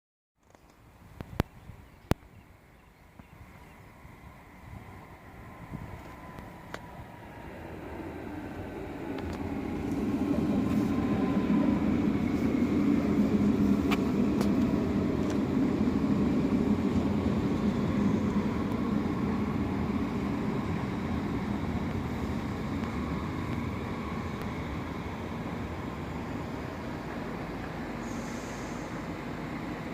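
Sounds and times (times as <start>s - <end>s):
train rumble: 0.6s - 29.9s.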